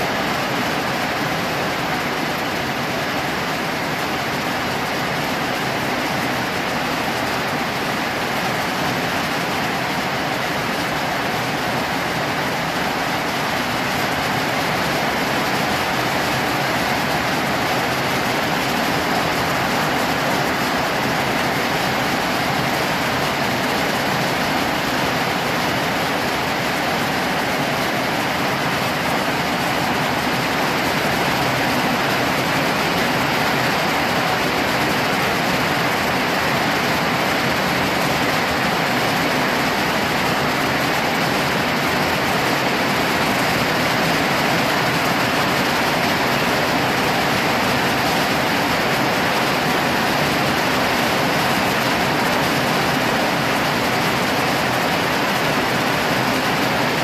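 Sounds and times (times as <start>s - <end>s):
heavy rain on metal roof: 0.0s - 57.0s.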